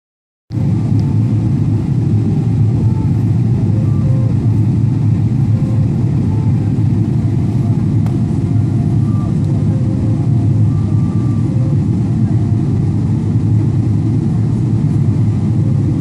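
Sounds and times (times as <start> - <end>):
airplane cabin rumble: 0.5 - 16.0.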